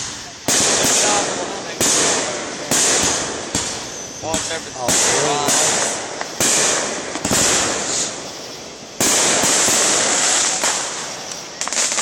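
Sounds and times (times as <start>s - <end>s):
fireworks crackle: 0.0s - 12.0s
fireworks exploding: 0.0s - 12.0s.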